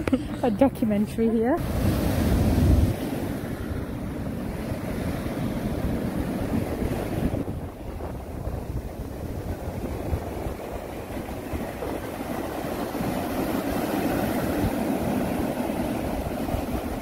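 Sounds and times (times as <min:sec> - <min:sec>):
ocean surf breaking on beach: 0:01.4 - 0:17.0.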